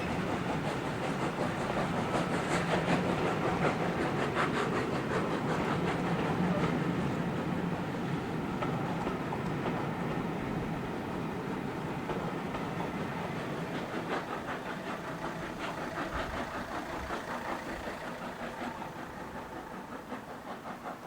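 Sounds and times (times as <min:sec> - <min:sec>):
steam train running past: 0:00.0 - 0:21.0.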